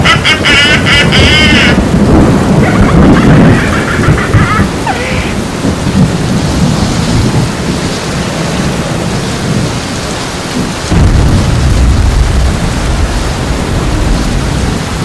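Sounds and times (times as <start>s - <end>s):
heavy rain: 0.0s - 15.0s
rolling thunder: 0.0s - 15.0s.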